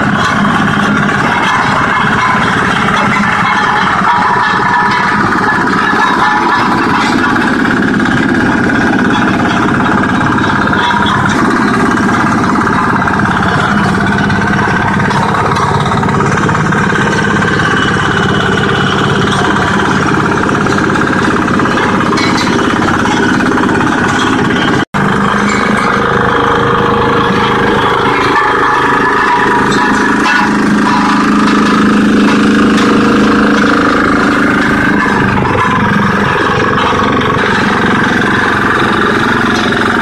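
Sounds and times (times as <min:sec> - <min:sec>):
loud mechanical clatter: 0:00.0 - 0:40.0
road roller engine running: 0:00.0 - 0:40.0.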